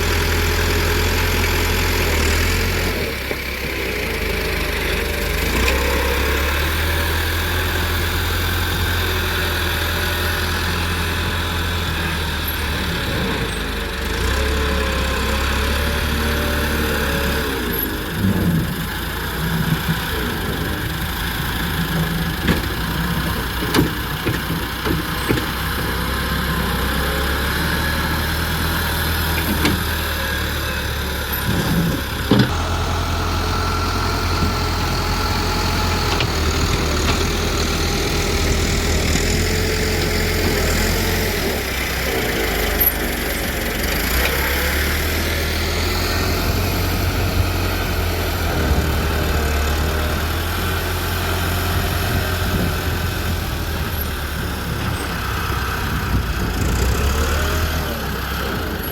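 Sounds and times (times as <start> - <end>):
diesel loader engine working: 0.0 - 58.9.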